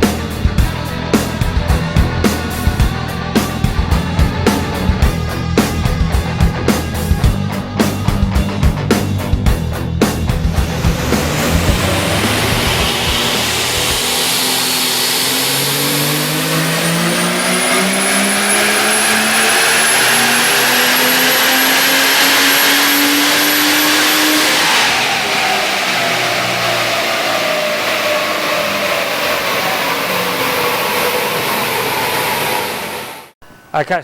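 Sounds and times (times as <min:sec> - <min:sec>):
engine revving at full load: 0:00.0 - 0:33.4
high whine: 0:00.0 - 0:34.0.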